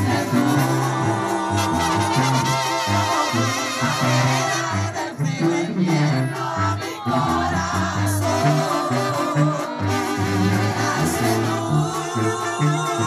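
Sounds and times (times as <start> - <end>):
brass band with tuba: 0.0 - 13.0
man singing: 0.0 - 13.0.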